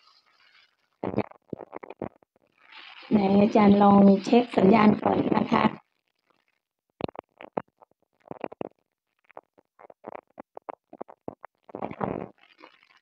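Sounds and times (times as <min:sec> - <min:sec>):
headset microphone crackling and clicking: 0:00.0 - 0:13.0.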